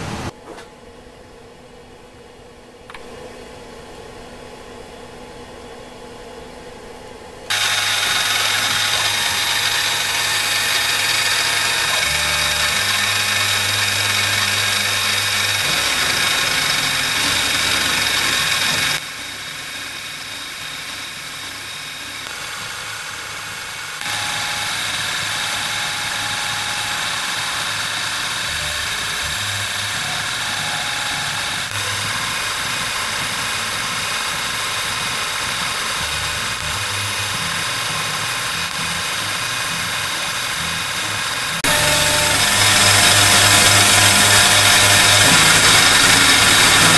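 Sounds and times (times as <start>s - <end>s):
mill spindle high whine: 1.4s - 46.9s.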